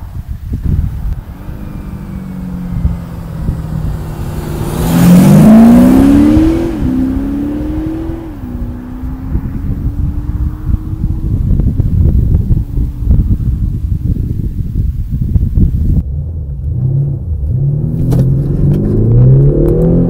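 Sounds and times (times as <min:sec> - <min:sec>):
diesel car accelerating hard: 0:00.1 - 0:14.4, 0:15.3 - 0:20.0.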